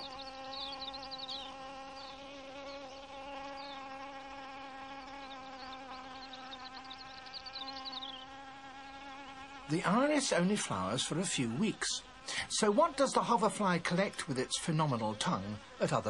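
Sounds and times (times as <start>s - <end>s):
hoverfly wings buzzing: 0.0s - 16.0s.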